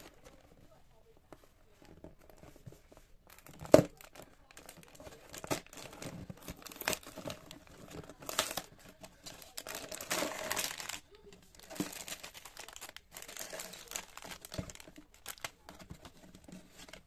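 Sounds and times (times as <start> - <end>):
plastic packaging crinkling: 3.3 - 17.0.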